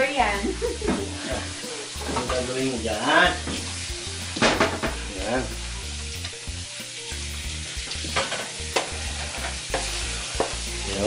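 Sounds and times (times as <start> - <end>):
food sizzling: 0.0 - 11.0
spatula scraping wok: 0.3 - 11.0.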